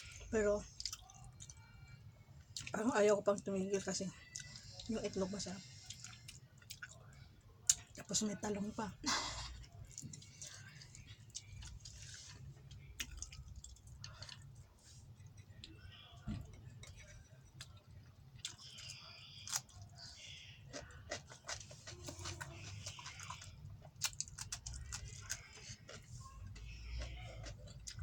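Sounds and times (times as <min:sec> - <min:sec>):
person chewing: 0:00.0 - 0:01.8, 0:03.9 - 0:08.1, 0:09.4 - 0:28.0
low steady hum: 0:00.0 - 0:28.0.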